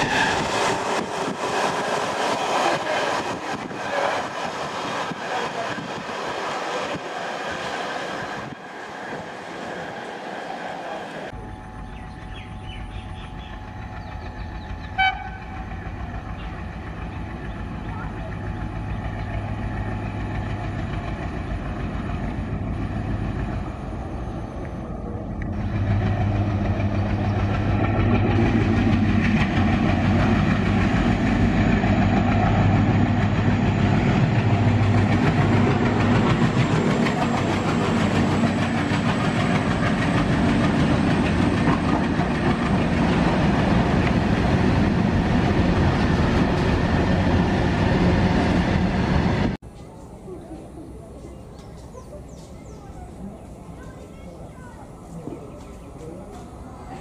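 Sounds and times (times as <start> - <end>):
diesel locomotive engine rumbling: 0.0 - 57.0.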